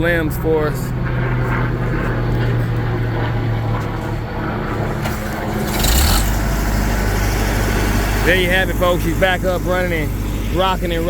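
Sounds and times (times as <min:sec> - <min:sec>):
wood chipper engine running: 0:00.0 - 0:11.0.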